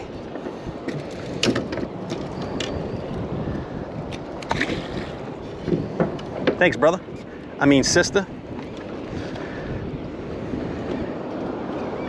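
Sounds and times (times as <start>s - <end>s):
water slapping boat hull: 0.0s - 11.7s
wind: 0.0s - 12.0s.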